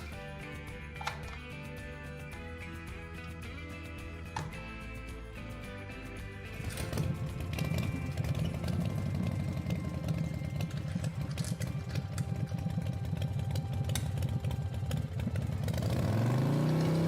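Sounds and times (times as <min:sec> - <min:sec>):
motorbike engine idling and revving: 0:00.0 - 0:17.0.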